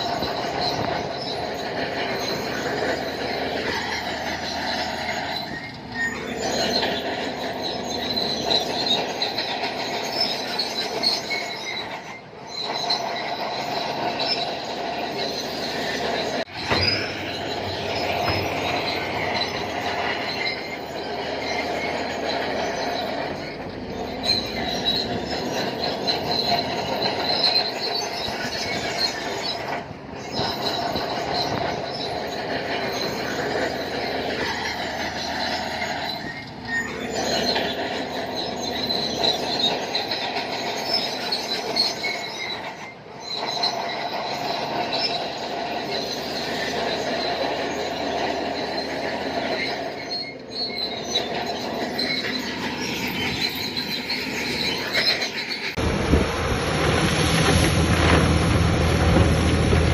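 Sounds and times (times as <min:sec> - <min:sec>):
bulldozer engine running: 0:00.0 - 0:59.9
bulldozer tracks squealing and clanking: 0:00.0 - 0:59.9.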